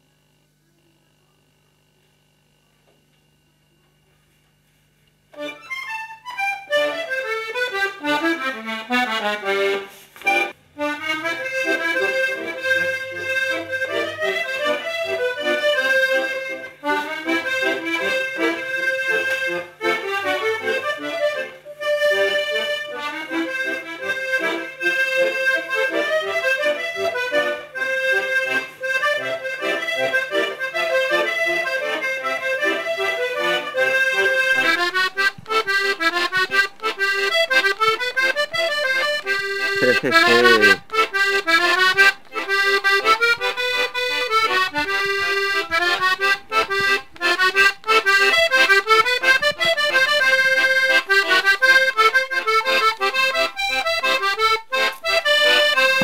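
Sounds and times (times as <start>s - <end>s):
accordion playing a tune: 5.3s - 56.0s.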